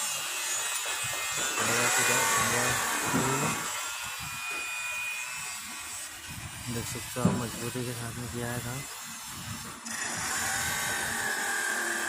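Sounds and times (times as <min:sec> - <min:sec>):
power tools working: 0:00.0 - 0:12.0.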